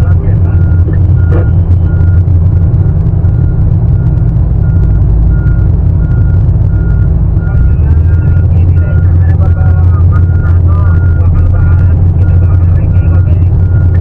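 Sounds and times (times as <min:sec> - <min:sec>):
back-up alarm beeping: 0:00.0 - 0:14.0
heavy diesel machinery droning: 0:00.0 - 0:14.0.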